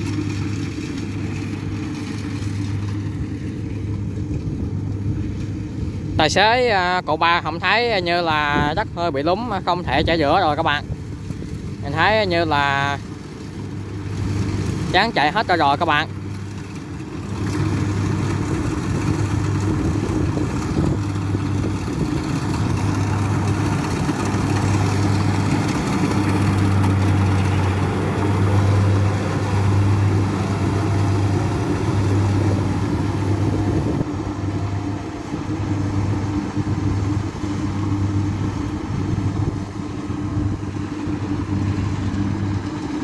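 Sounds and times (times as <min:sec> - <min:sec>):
combine harvester engine drone: 0:00.0 - 0:43.0.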